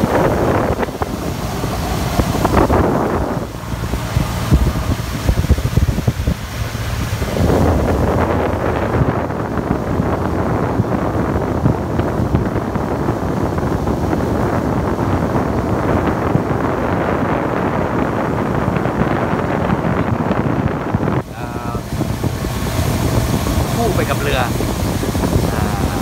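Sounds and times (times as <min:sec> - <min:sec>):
boat motor: 0:00.0 - 0:26.0
water rushing: 0:00.0 - 0:26.0
wind buffeting microphone: 0:00.0 - 0:26.0.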